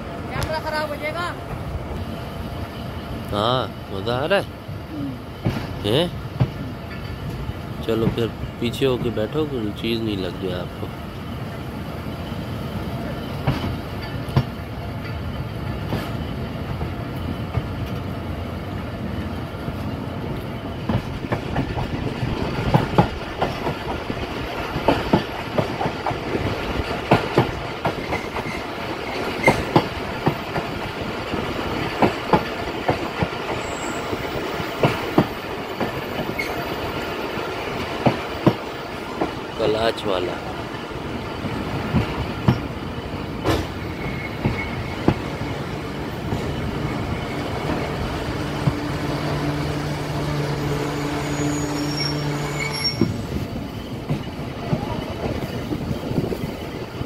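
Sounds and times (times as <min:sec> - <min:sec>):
train rumble: 0:00.0 - 0:57.0
wheels clacking over rail joints: 0:05.4 - 0:11.6, 0:12.2 - 0:18.8, 0:19.7 - 0:49.6, 0:52.8 - 0:57.0.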